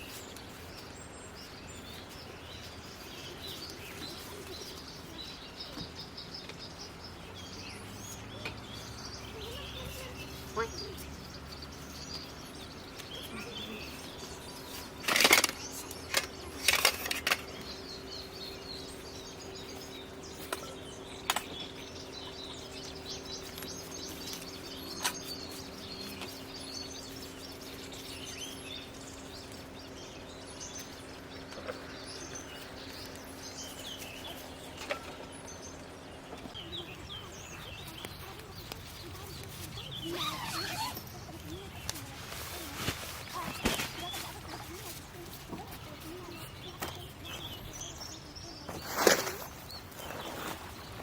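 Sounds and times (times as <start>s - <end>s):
birds chirping: 0.0s - 51.0s
steady low hum: 0.0s - 51.0s.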